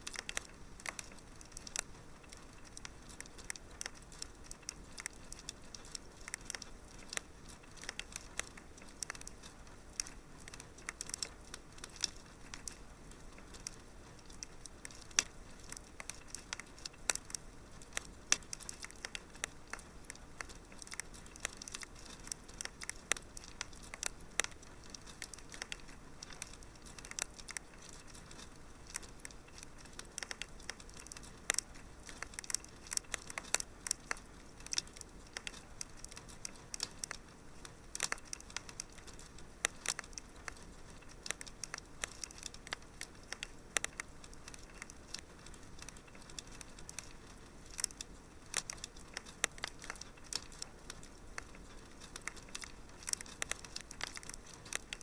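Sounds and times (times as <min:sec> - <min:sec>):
faint steady hiss: 0:00.0 - 0:55.0
wood fire crackling: 0:00.0 - 0:55.0.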